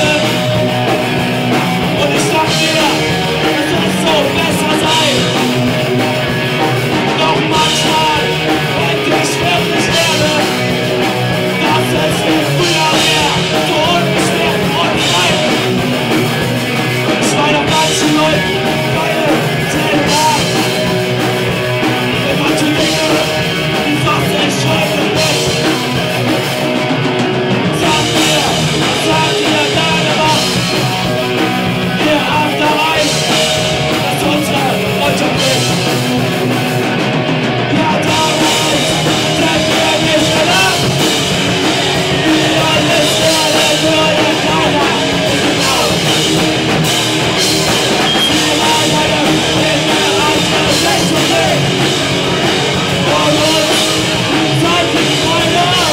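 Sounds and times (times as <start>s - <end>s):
drum kit: 0.0s - 55.9s
electric guitars through amplifiers: 0.0s - 55.9s.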